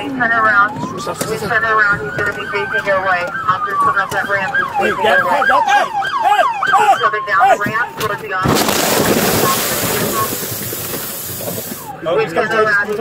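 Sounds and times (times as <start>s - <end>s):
police sirens wailing: 0.0s - 12.8s
rapid siren yelp: 0.1s - 12.1s.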